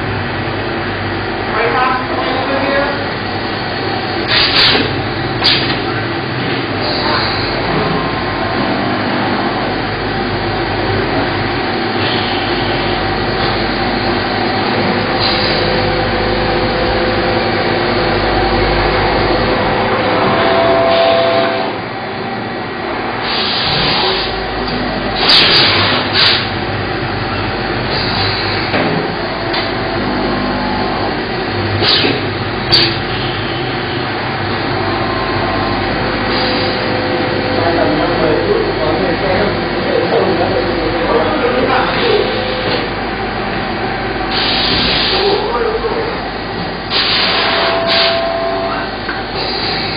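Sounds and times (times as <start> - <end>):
machinery running: 0.0 - 49.9.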